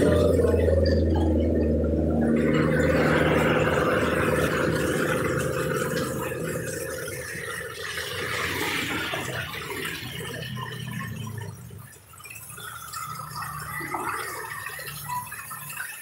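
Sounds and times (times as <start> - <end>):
car tyres swishing through water: 0.0 - 16.0
heavy rain: 0.0 - 16.0
truck engine hum: 0.0 - 16.0.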